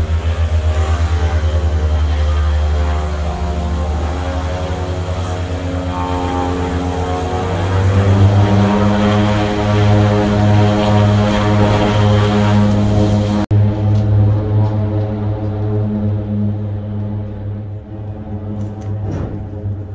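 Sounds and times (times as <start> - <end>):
propeller airplane engines drone: 0.0 - 19.9.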